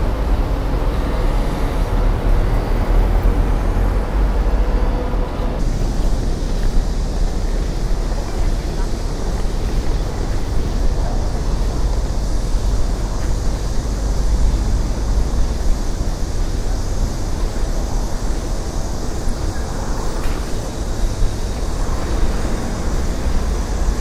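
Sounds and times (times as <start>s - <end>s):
low rumble of city traffic: 0.0s - 24.0s.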